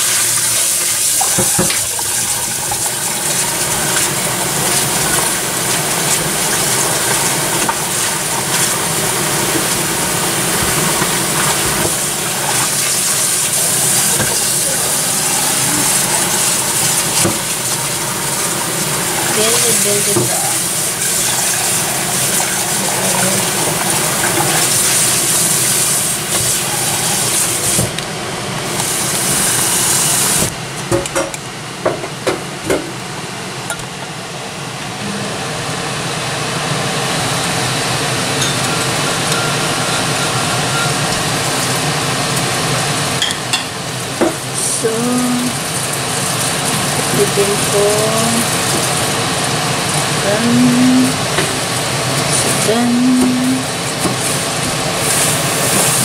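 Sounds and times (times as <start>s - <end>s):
hot oil sizzling: 0.0s - 31.7s, 35.6s - 56.0s.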